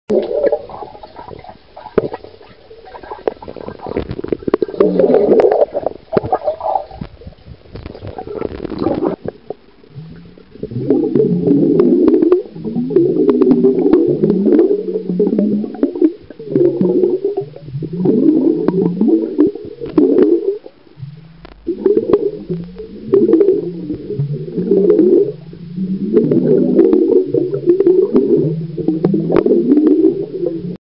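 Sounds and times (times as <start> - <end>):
underwater air bubbling: 0.1 - 30.8.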